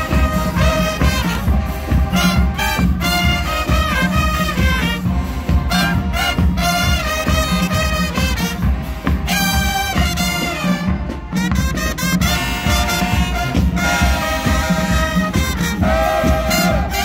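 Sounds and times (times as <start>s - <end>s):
booming bass drums and drumline: 0.0s - 17.0s
brass chords: 0.0s - 17.0s.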